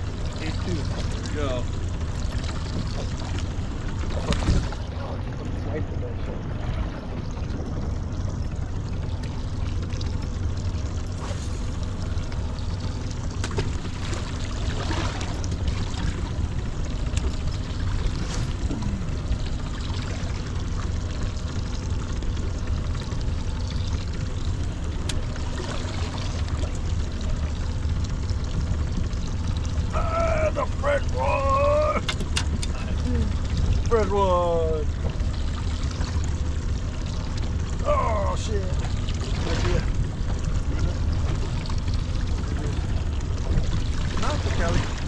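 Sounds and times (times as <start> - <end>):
steady low rumble: 0.0 - 45.0
water splashing around boat: 0.0 - 45.0.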